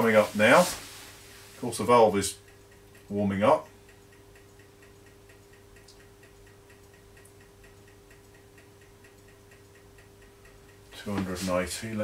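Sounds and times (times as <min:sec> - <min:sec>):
faint steady hum: 0:00.0 - 0:12.0
light even ticking: 0:01.7 - 0:12.0.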